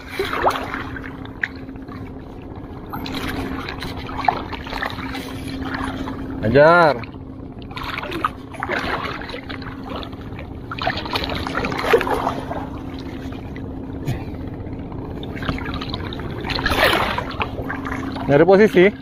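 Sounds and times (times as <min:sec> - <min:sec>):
faint steady hum: 0:00.0 - 0:19.0
seawater sloshing around legs: 0:00.0 - 0:19.0.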